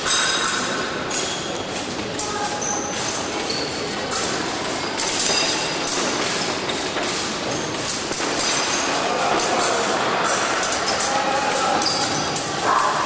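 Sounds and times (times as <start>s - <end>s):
fencing blades clicking: 0.0s - 13.0s.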